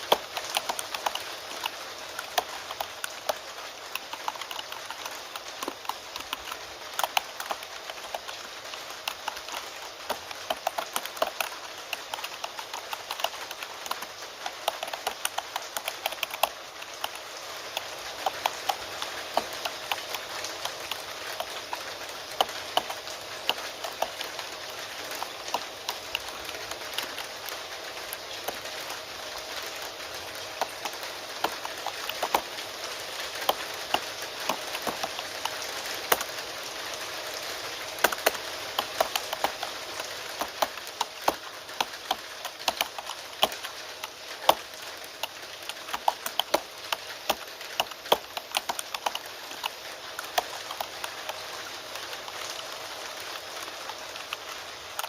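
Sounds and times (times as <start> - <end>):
keyboard typing: 0.0 - 55.0
steady rain: 0.0 - 55.0.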